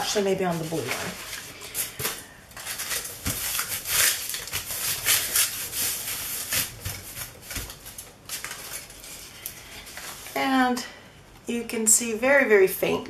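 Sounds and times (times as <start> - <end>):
aluminium foil crackling and rustling: 0.0 - 10.8.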